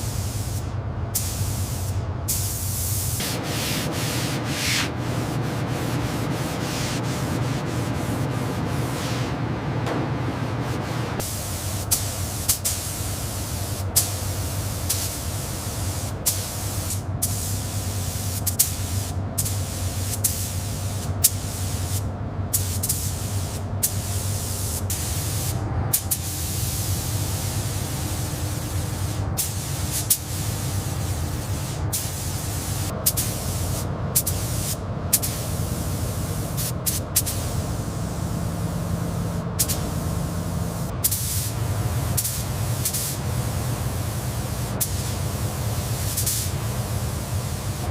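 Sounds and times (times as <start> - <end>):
low machine hum: 3.2 - 36.6, 37.4 - 45.8.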